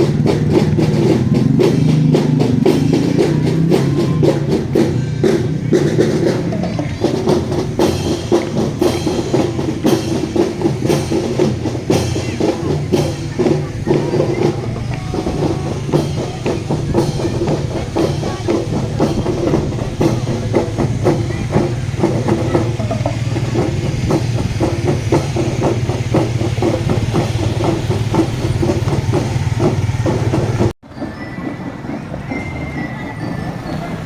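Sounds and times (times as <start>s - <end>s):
marching drum band playing: 0.0s - 34.0s.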